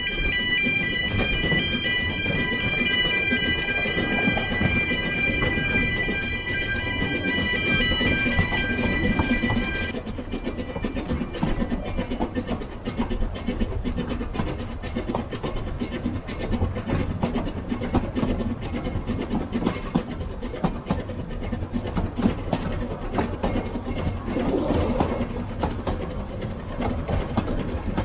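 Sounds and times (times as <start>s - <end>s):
steam locomotive rumble: 0.0s - 28.0s
wheels clicking on track: 0.0s - 28.0s.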